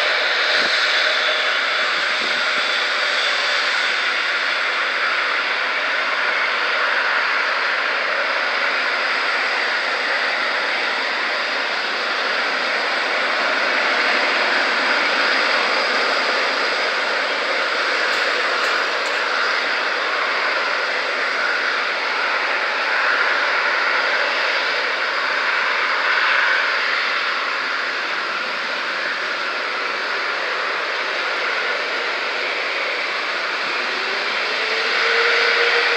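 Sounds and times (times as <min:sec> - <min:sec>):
jet engines at takeoff: 0:00.0 - 0:35.9.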